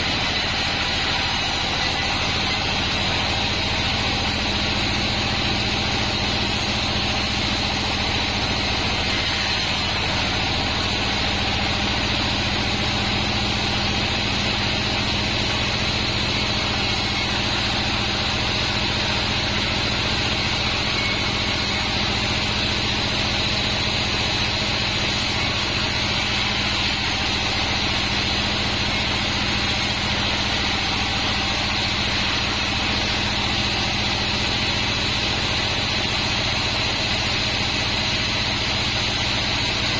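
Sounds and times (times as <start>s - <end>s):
high whine: 0.0s - 39.9s
sawmill machinery drone: 0.0s - 39.9s.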